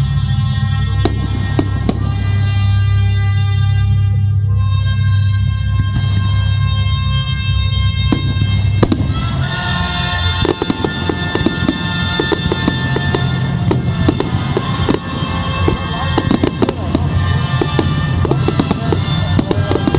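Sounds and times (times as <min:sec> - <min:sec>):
fireworks bangs and crackles: 0:00.0 - 0:04.2, 0:05.0 - 0:19.9
loud film music: 0:00.0 - 0:19.9.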